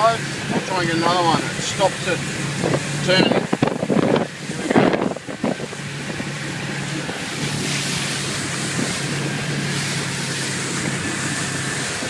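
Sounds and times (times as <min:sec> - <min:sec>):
boat motor humming: 0:00.0 - 0:12.0
water rushing: 0:00.0 - 0:12.0
wind rushing: 0:02.2 - 0:12.0.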